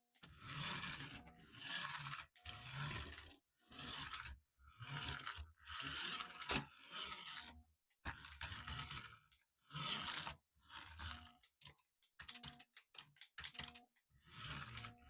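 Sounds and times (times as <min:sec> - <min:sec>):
toy car electric motor whirring: 0:00.2 - 0:11.6, 0:13.4 - 0:15.0.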